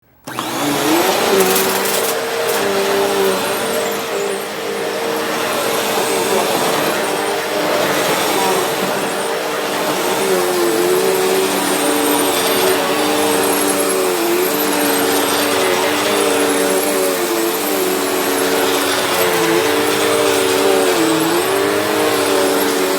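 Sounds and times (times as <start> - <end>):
vacuum cleaner running: 0.1 - 22.9.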